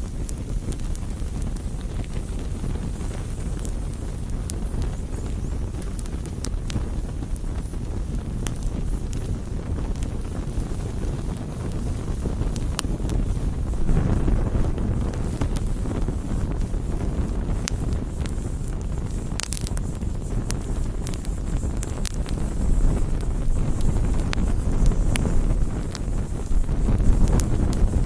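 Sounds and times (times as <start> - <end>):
rumble of fire: 0.0 - 28.0
wood crackling and popping: 0.0 - 28.0.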